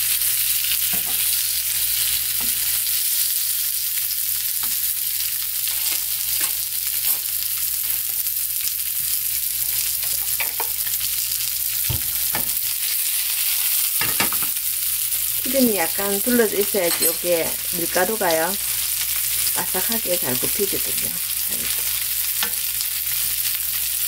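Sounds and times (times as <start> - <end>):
fish sizzling in oil: 0.0 - 24.0.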